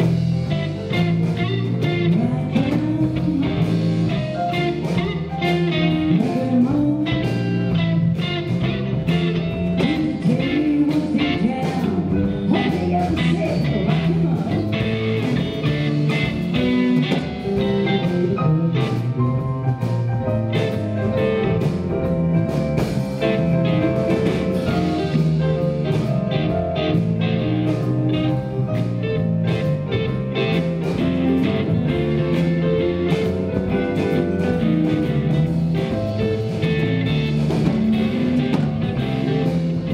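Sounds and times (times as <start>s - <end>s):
blues-rock band playing: 0.0s - 39.9s
electric guitar: 0.0s - 39.9s.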